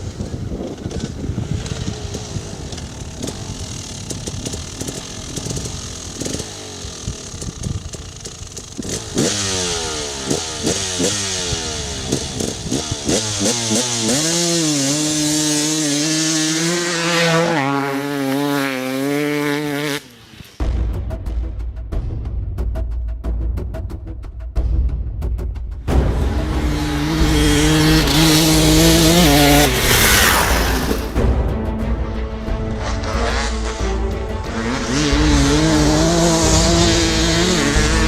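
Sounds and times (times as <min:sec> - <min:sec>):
motorcycle engine revving: 0:00.0 - 0:20.6, 0:25.9 - 0:38.0.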